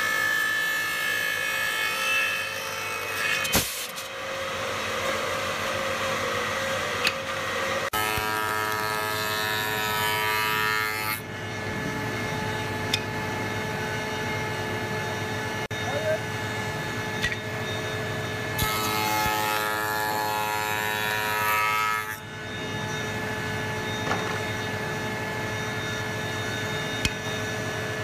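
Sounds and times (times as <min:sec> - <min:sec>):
woodworking machines cutting wood: 0:00.0 - 0:13.0, 0:15.6 - 0:28.0.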